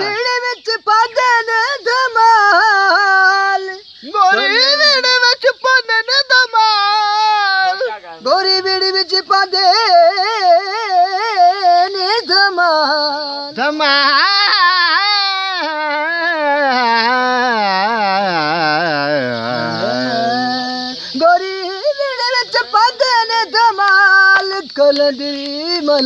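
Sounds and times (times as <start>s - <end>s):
man singing unaccompanied: 0.0s - 26.0s.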